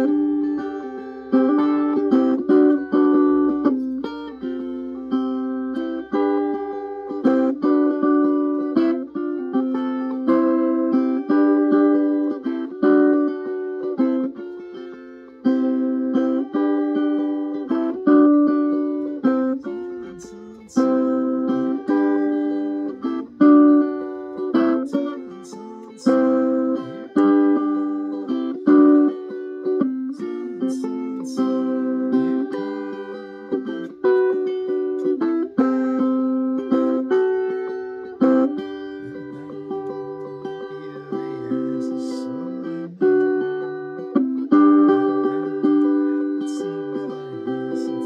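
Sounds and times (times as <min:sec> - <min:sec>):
electric ukulele strummed chords: 0:00.0 - 0:48.0.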